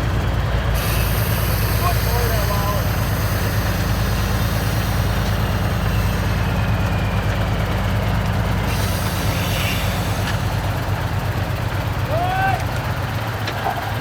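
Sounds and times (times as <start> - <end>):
truck diesel engine idling low: 0.0 - 14.0.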